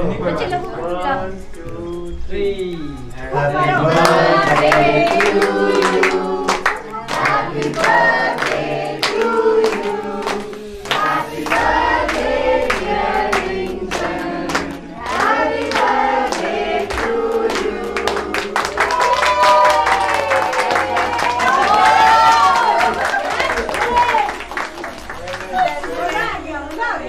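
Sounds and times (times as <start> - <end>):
group singing: 3.1 - 25.0
hands clapping along: 3.9 - 27.0.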